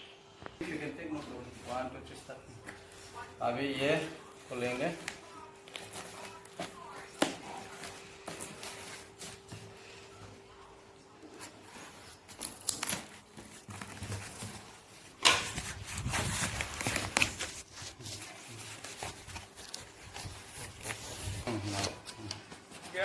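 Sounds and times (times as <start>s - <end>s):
packaging rustling and tearing: 1.4s - 9.9s, 11.3s - 23.0s.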